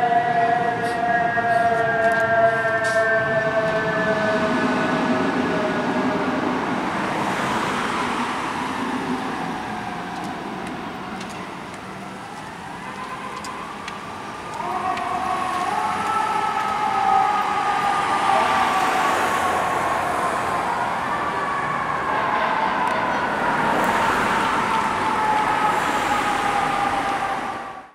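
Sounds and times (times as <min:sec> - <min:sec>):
emergency sirens wailing: 0:00.0 - 0:27.9
traffic noise: 0:00.0 - 0:27.9.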